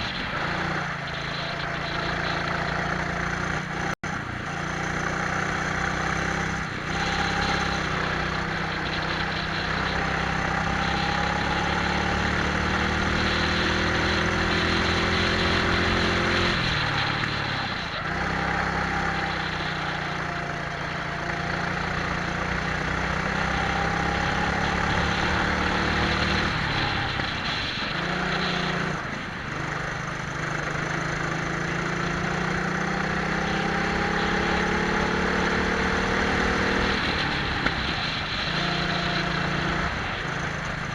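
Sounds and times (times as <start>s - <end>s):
kart engines revving: 0.0s - 40.9s.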